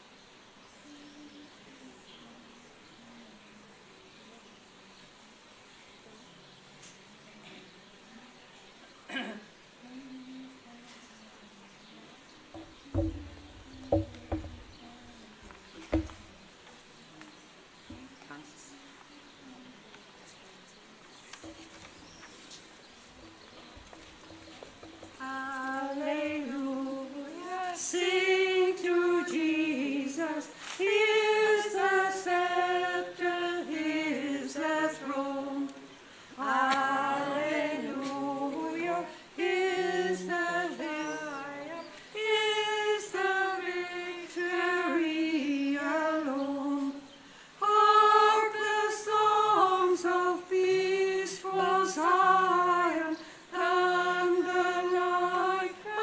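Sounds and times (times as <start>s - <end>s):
unaccompanied hymn singing: 0.0s - 56.0s.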